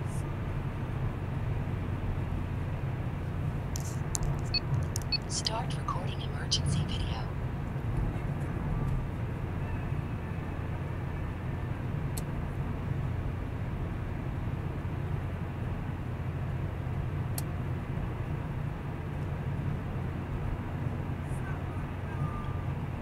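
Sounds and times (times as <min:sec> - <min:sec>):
engine and tyres rumbling: 0:00.0 - 0:23.0.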